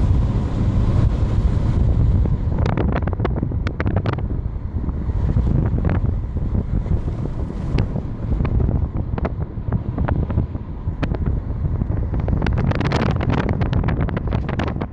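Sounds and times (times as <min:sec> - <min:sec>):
low road rumble: 0:00.0 - 0:14.9
wind buffeting microphone: 0:00.0 - 0:14.9.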